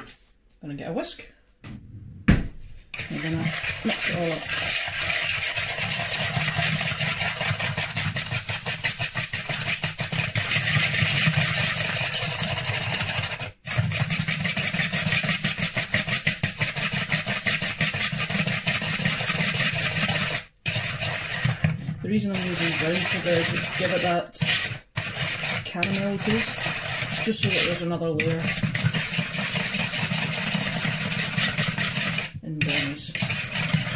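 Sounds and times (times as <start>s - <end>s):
whisk scraping plastic bowl: 2.7s - 33.9s.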